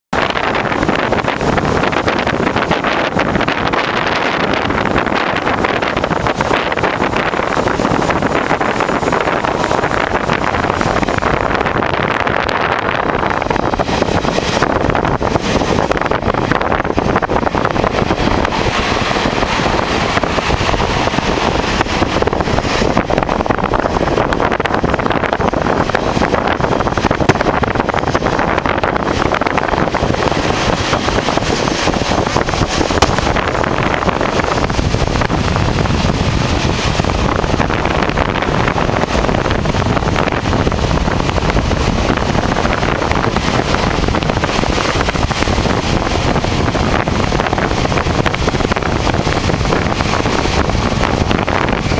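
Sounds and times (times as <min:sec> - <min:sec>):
train running noise: 0:00.0 - 0:51.9
wind buffeting microphone: 0:00.1 - 0:51.9.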